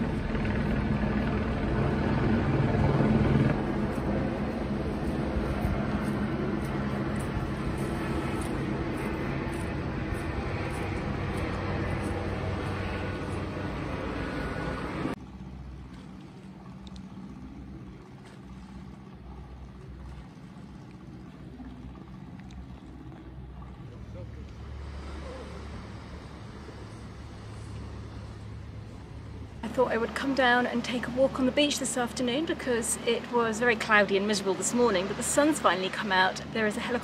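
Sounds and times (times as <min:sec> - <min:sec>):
low hum: 0:00.0 - 0:37.0
motor drone: 0:00.0 - 0:37.0.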